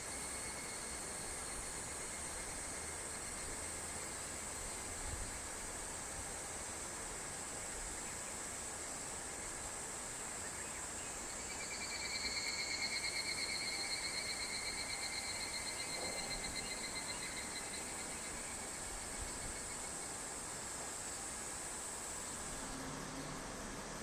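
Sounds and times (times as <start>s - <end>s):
cicada trilling: 0.0s - 22.8s
steady high-pitched hiss: 0.0s - 24.0s.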